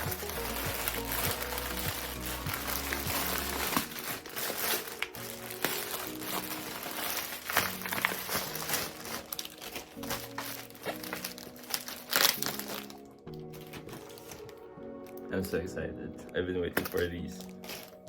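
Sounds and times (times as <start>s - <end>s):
plastic packaging crinkling: 0.0s - 15.3s, 16.7s - 18.0s
background music with held notes: 0.0s - 18.0s.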